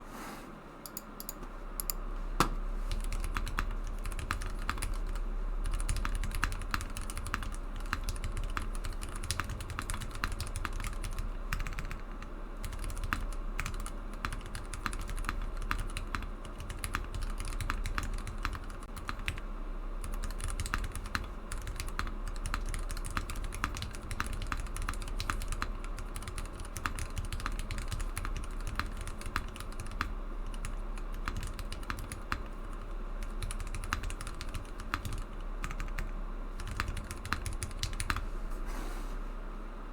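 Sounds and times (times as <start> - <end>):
fast typing on mechanical keyboard: 2.9 - 19.4, 20.0 - 38.2.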